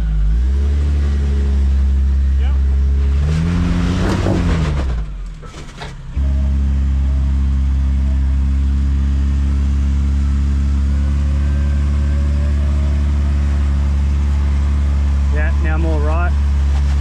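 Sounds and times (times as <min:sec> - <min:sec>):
off-road vehicle engine low revs: 0:00.0 - 0:17.0.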